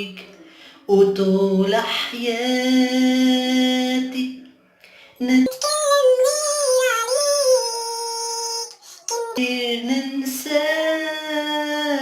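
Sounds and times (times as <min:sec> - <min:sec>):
person singing unaccompanied: 0:00.9 - 0:04.4, 0:05.2 - 0:12.0.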